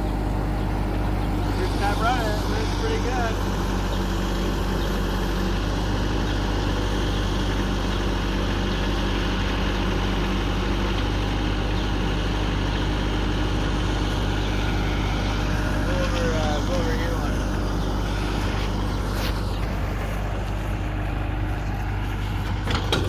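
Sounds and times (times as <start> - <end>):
diesel engine running steadily: 0.0 - 23.0.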